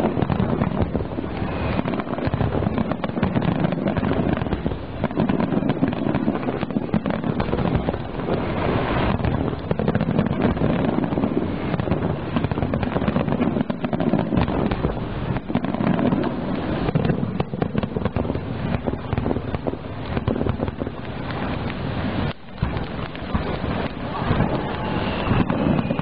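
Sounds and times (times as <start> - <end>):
fireworks booming: 0.0 - 26.0.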